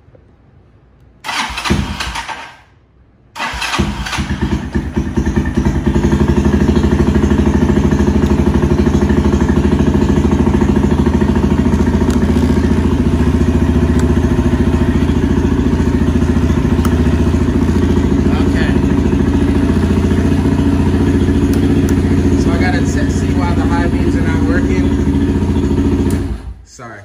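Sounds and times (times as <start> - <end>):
engine cranking and idling: 1.2 - 2.7, 3.4 - 26.7.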